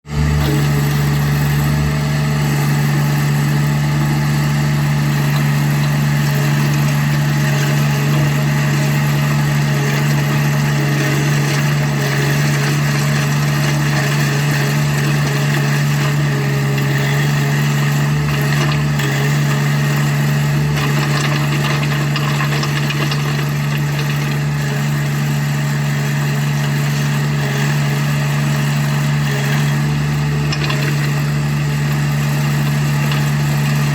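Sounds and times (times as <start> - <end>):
loader engine running: 0.0 - 33.9.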